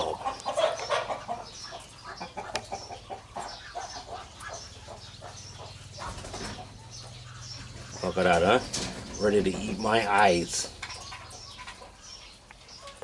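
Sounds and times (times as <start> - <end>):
chicks peeping: 0.0 - 13.0
hen clucking: 0.0 - 13.0.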